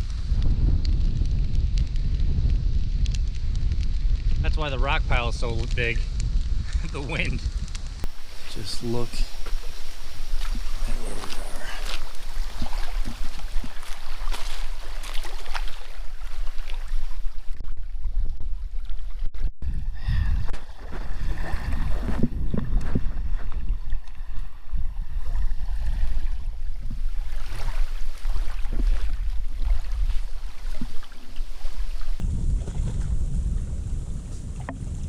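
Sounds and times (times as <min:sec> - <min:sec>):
gusting wind: 0:00.0 - 0:35.0
water: 0:00.0 - 0:35.0
wind buffeting microphone: 0:00.0 - 0:35.0.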